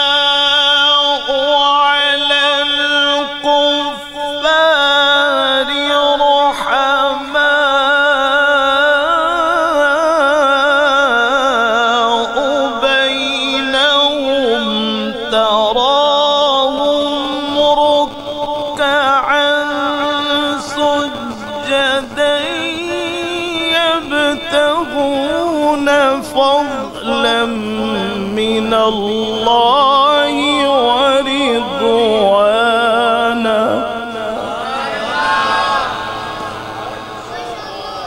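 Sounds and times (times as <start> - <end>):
man chanting recitation: 0.0 - 38.0.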